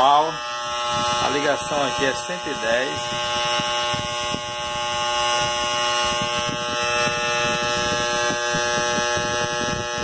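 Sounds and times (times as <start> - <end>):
welding machine buzzing: 0.0 - 10.0.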